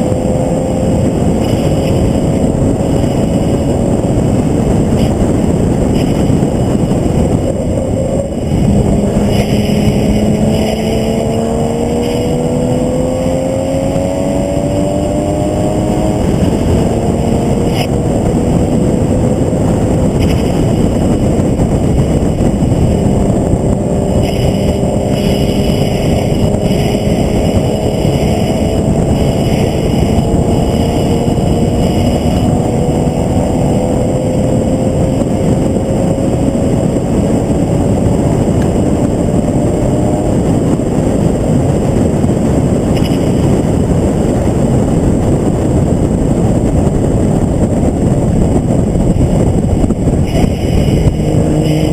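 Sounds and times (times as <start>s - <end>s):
race car engine climbing: 0.0s - 51.9s
wind and road rush: 0.0s - 51.9s.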